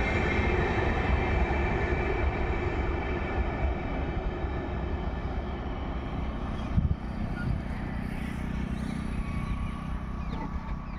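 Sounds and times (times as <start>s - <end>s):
train wheels rumbling on track: 0.0s - 10.9s.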